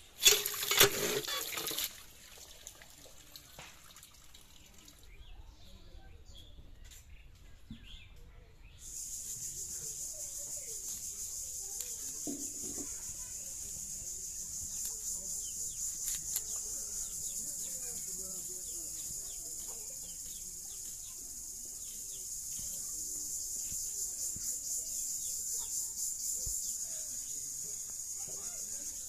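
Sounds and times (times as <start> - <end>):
bird chirps: 5.1 - 29.0.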